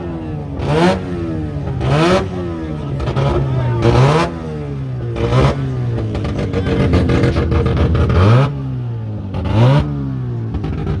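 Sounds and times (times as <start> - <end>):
rotary engine revving: 0.0 - 11.0.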